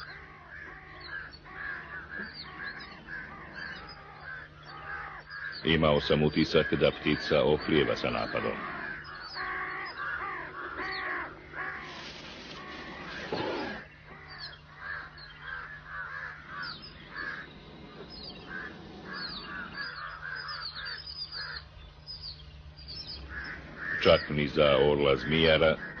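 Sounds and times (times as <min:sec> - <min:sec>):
birds cawing harshly: 0:00.0 - 0:26.0
birds chirping: 0:00.0 - 0:26.0
low hum: 0:00.0 - 0:26.0.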